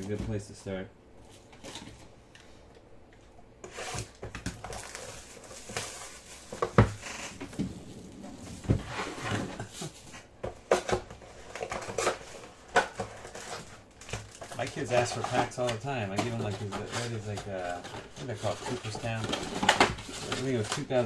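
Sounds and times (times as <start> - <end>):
cardboard rustling and scraping: 3.6 - 21.0.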